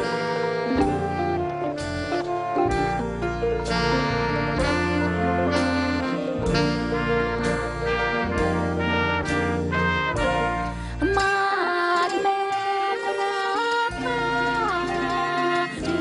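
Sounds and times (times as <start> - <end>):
dance band playing: 0.0 - 16.0
xylophone melody with sliding notes: 0.0 - 16.0.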